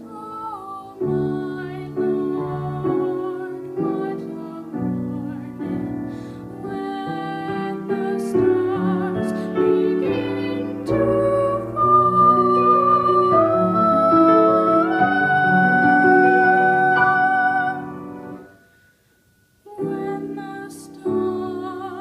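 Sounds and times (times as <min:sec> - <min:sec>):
piano playing slow chords: 0:01.0 - 0:22.0.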